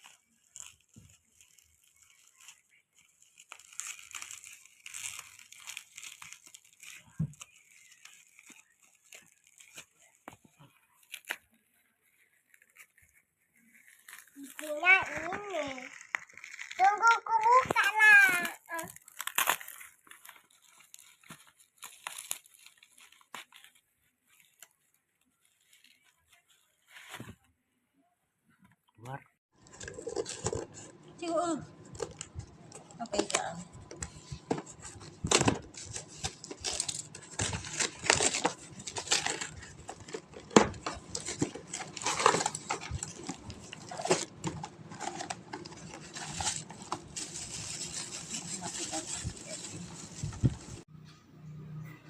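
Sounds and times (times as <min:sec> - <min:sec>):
packaging crinkling: 0:00.0 - 0:27.3, 0:29.5 - 0:50.9.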